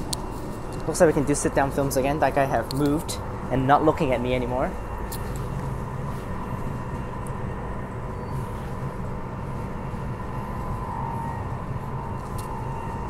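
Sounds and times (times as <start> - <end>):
steady humming tone: 0.0 - 13.0.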